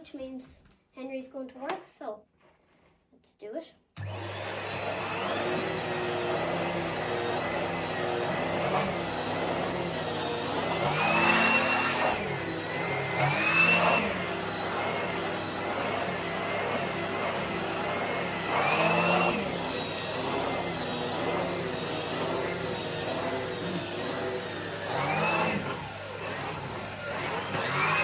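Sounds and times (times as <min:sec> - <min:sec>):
vacuum cleaner motor whine: 0:04.0 - 0:28.0.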